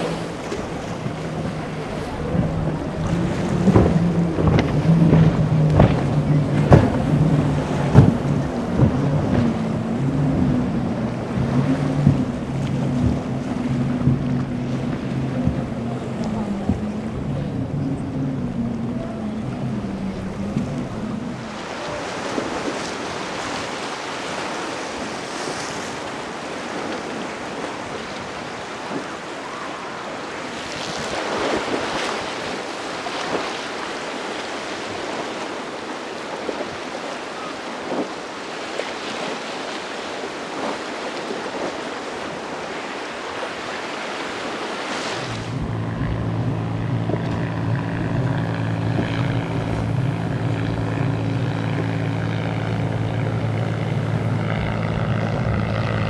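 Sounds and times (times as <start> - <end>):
outboard engines running: 0.0 - 56.0
waves splashing: 0.0 - 56.0.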